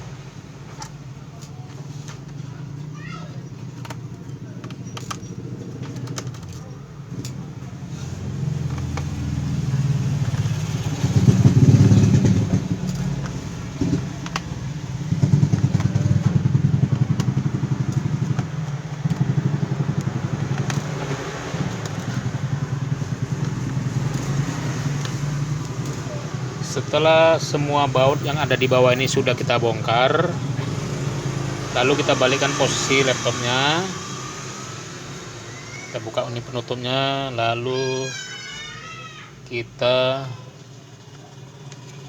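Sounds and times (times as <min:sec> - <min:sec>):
motorcycle engine passing by: 0:02.4 - 0:37.9.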